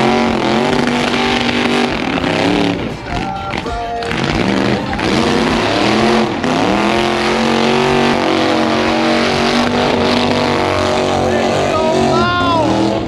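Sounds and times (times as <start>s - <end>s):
car engine revving hard: 0.0s - 13.0s
spinning tyres hissing: 0.0s - 13.0s.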